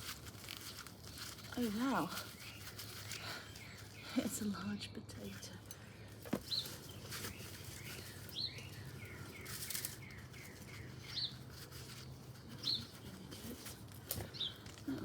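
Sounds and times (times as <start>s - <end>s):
birds chirping: 1.6s - 15.0s.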